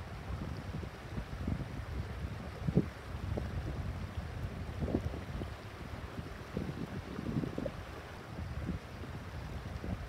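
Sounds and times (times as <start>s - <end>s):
stream babbling over stones: 0.0s - 10.0s
wind rumble on microphone: 0.0s - 10.0s.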